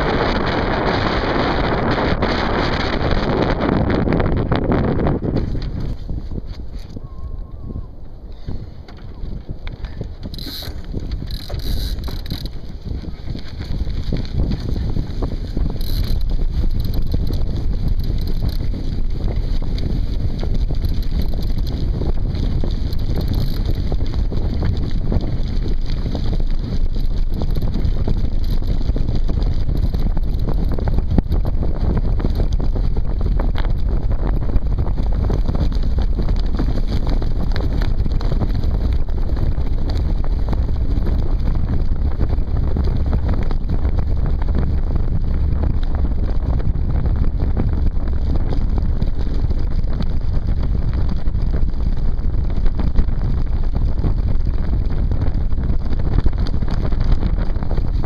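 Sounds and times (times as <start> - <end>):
wind buffeting microphone: 0.0 - 58.0
small rattles: 8.4 - 54.9.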